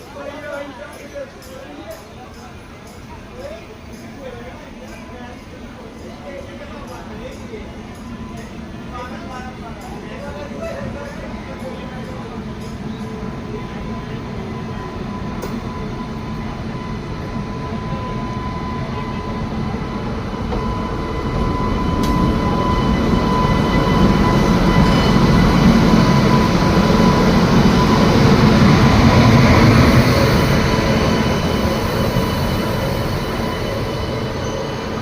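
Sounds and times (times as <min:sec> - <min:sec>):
train wheels rumbling: 0:00.0 - 0:35.0
thin steady whine: 0:05.8 - 0:35.0.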